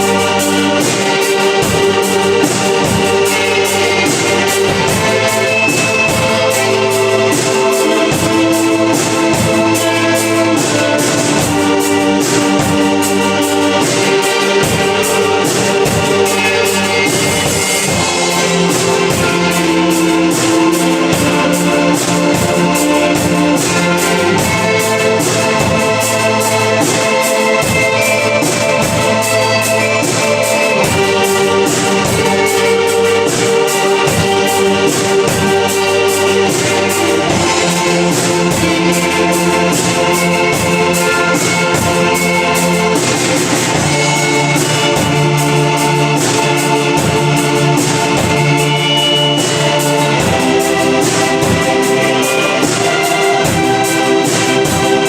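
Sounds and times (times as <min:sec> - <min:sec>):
live band instrumental music: 0:00.0 - 0:55.0.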